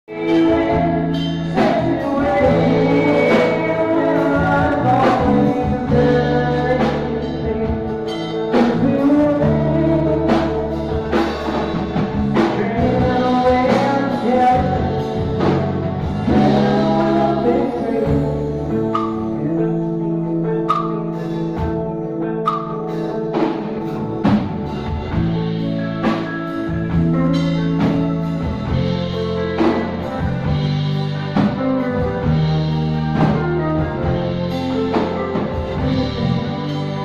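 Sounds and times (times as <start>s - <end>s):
slow band song: 0.0s - 37.0s.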